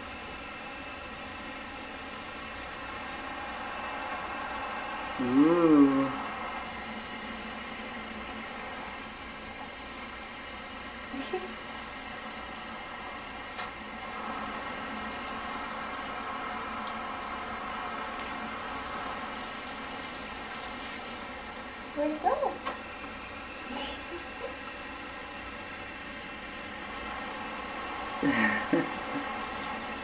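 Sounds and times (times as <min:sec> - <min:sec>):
shower water spray: 0:01.4 - 0:09.7, 0:11.0 - 0:30.0.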